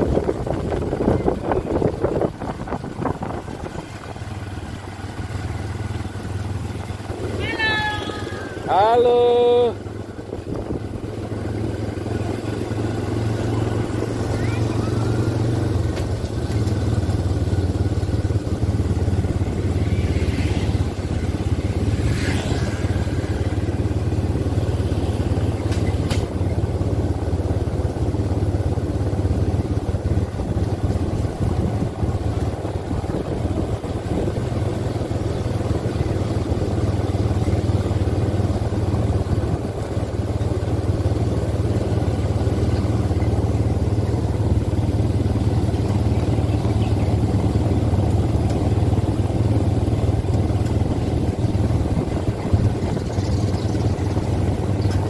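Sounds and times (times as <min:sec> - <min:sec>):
quad bike engines droning: 0:00.0 - 0:55.0.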